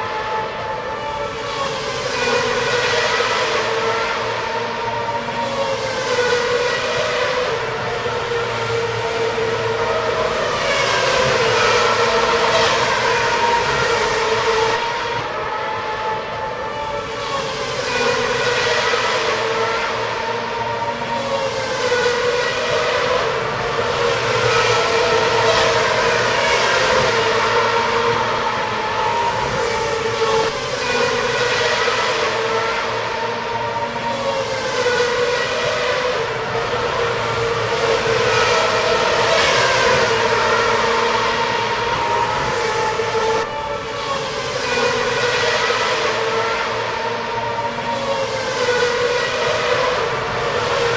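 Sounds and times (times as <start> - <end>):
racing cars passing: 0.0 - 50.9.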